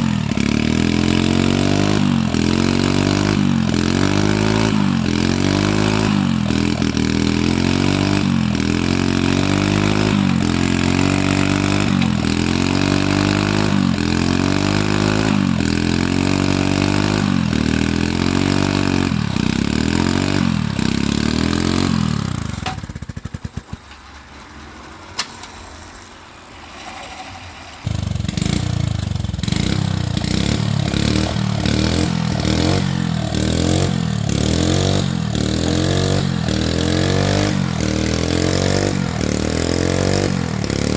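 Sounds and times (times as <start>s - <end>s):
small petrol engine revving: 0.0s - 40.9s.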